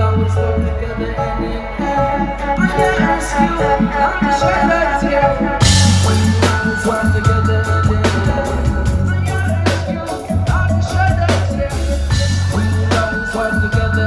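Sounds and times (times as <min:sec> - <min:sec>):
live rock band playing: 0:00.0 - 0:14.0
drum hits: 0:02.0 - 0:14.0.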